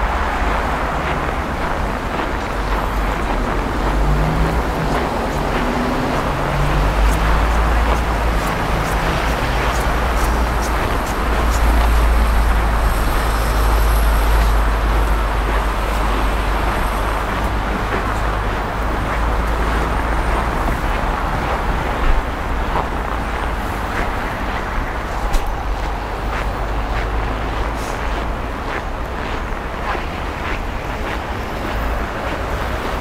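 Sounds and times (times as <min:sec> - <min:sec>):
city traffic noise: 0:00.0 - 0:33.0.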